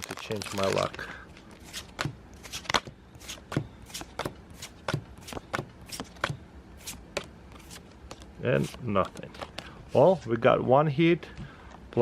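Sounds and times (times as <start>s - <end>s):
trading cards sliding: 0.2s - 10.2s.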